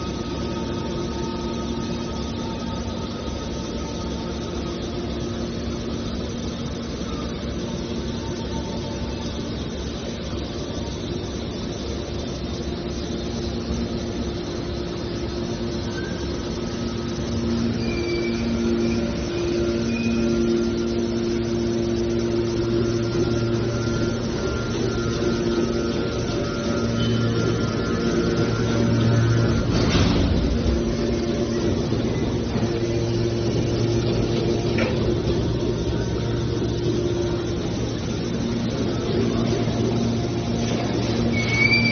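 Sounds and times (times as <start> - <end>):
scrap metal baler humming: 0.0 - 41.9.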